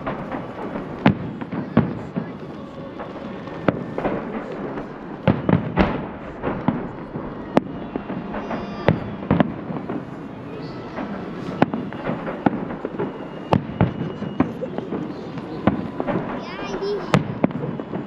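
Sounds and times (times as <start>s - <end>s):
fireworks bursting: 0.0s - 18.0s
rumble of fireworks reports: 0.0s - 18.0s.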